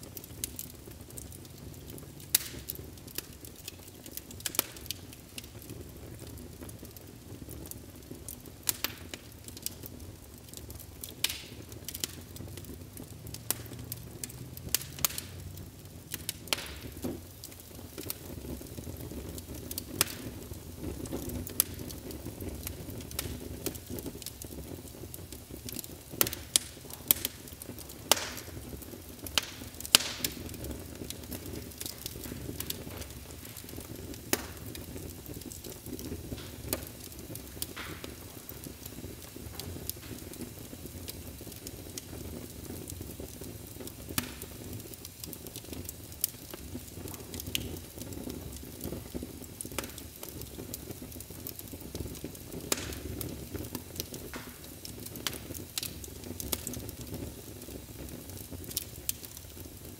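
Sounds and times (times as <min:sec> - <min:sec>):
fire crackling and popping: 0:00.0 - 0:59.9
rumble and hiss of flames: 0:00.0 - 0:59.9.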